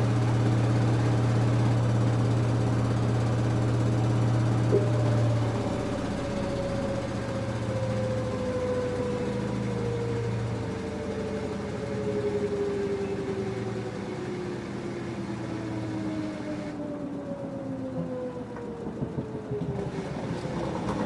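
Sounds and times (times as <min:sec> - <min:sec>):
washing machine motor whine: 0:00.0 - 0:21.0.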